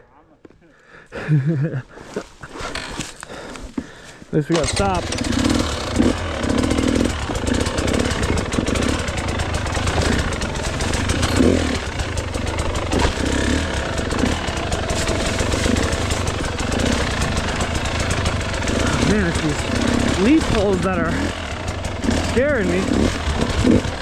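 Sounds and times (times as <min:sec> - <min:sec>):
dirt bike engine running: 0:02.7 - 0:24.0
engine throttle blips: 0:04.5 - 0:24.0.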